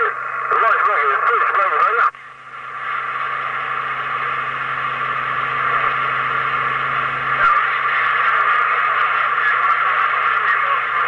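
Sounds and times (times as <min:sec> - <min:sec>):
low steady hum: 0:00.0 - 0:11.0
radio static hiss: 0:00.0 - 0:11.0.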